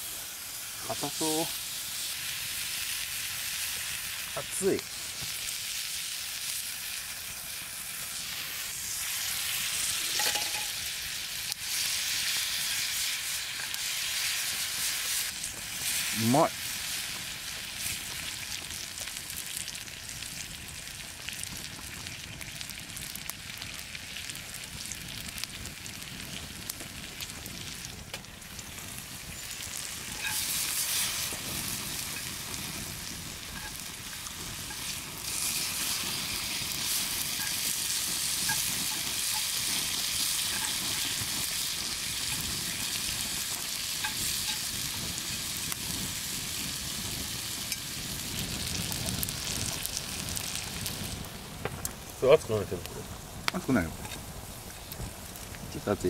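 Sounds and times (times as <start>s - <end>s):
meat sizzling in a skillet: 0.0s - 56.0s.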